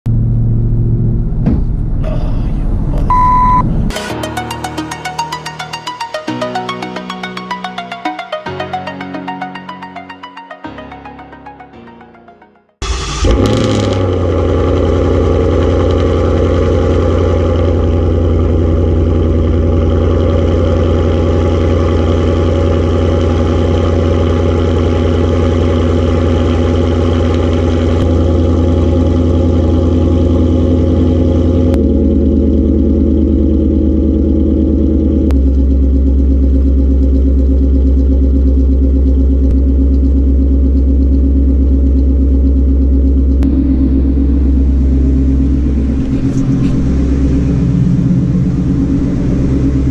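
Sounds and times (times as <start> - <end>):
car engine droning: 0.0 - 5.9, 12.8 - 49.9.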